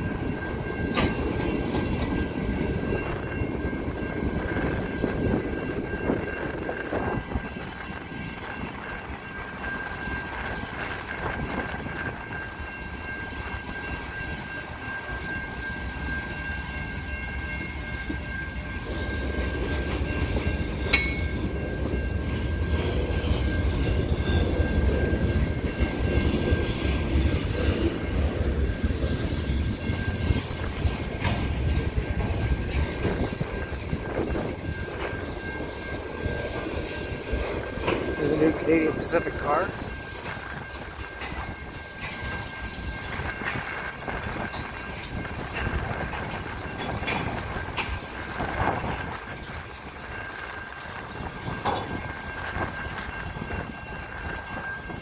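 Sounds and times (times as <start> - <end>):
crossing signal bell: 0.0 - 55.0
train wheels rumbling and clacking: 0.0 - 55.0.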